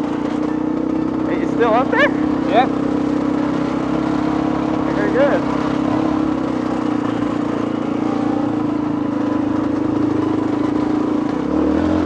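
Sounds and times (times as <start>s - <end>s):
two-stroke dirt bike engine: 0.0s - 12.0s.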